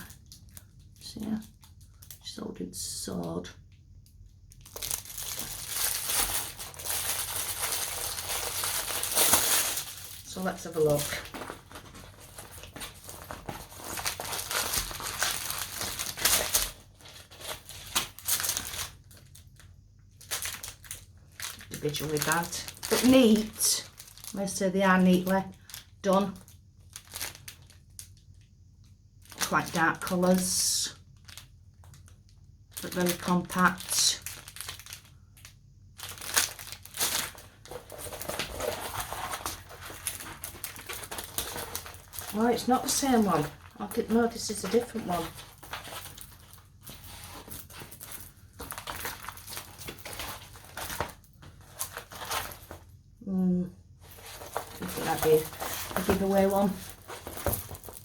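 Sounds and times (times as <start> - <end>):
packaging crinkling and rustling: 0.0 - 3.2, 3.8 - 53.2, 53.8 - 58.0.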